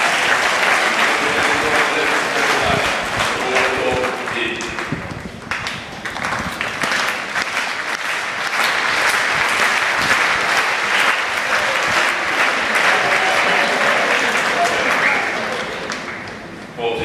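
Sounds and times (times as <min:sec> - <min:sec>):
stadium crowd applauding: 0:00.0 - 0:16.6.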